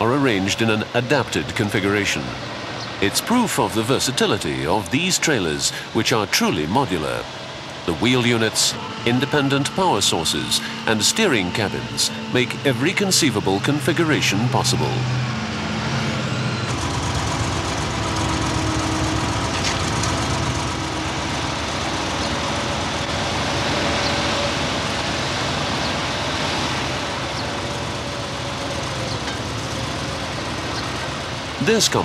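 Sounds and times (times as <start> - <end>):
heavy engines droning: 0.0 - 32.0.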